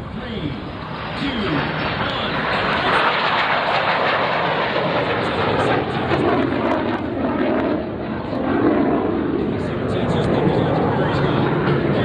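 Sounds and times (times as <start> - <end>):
jet fighter flying over: 0.0 - 12.0.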